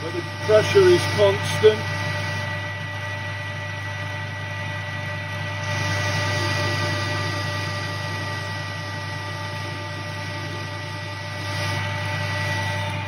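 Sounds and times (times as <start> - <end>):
high whining tones: 0.0 - 13.0
metal lathe running: 0.0 - 13.0.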